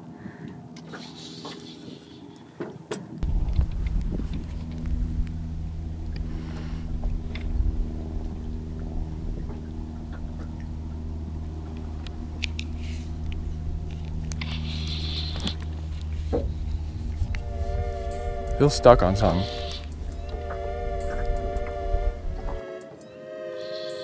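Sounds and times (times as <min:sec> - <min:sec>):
boat motor humming: 0:00.0 - 0:24.0.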